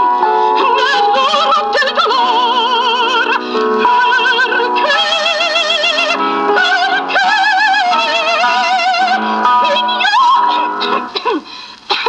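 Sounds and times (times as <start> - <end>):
woman singing with vibrato: 0.0 - 11.4
opera record playing: 0.0 - 12.0.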